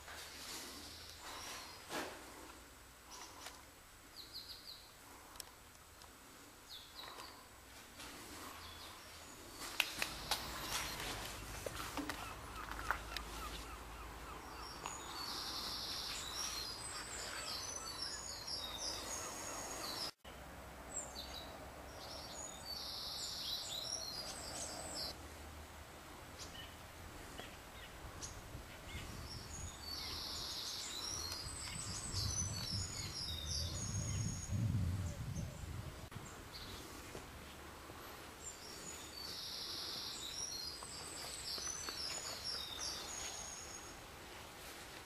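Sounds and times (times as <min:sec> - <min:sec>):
low outdoor background noise: 0:00.0 - 0:45.0
songbird singing: 0:03.1 - 0:05.6, 0:08.4 - 0:25.2, 0:26.3 - 0:44.2.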